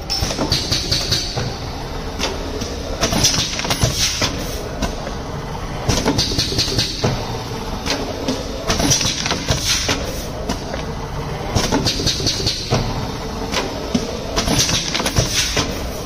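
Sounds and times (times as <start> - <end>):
packing machine clattering: 0.0 - 5.2, 5.9 - 10.9, 11.5 - 16.0.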